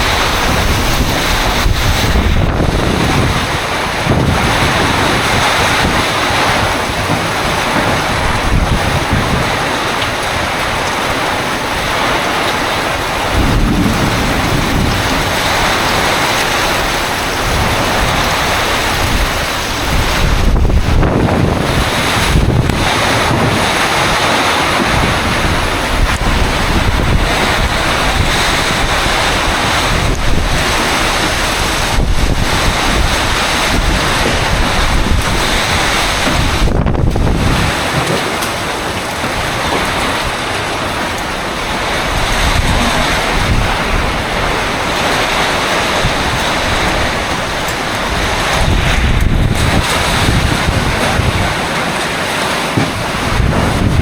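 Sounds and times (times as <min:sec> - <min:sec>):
heavy rain: 0:00.0 - 0:54.0
strong wind rushing: 0:00.0 - 0:54.0
wind gusts buffeting microphone: 0:00.0 - 0:54.0.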